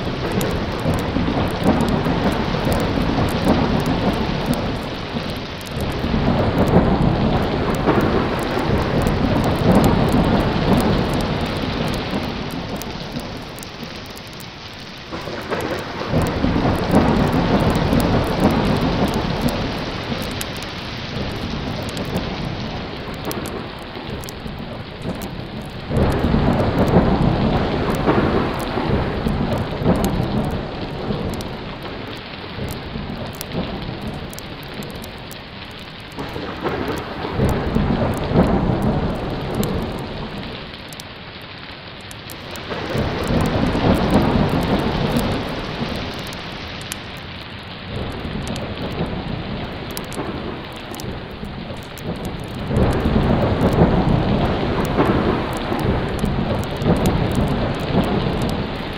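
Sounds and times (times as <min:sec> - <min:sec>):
heavy rain: 0:00.0 - 0:58.9
thunder rumbling: 0:00.0 - 0:58.9.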